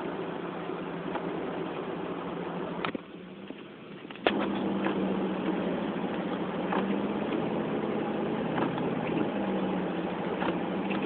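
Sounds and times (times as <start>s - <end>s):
car engine and road noise: 0.0s - 11.0s
low steady hum: 0.0s - 11.0s.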